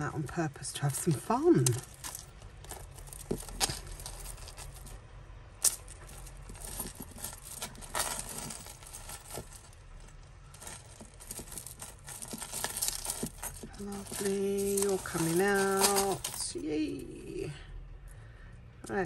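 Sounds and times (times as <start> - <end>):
metal chain clinking: 0.7 - 17.5.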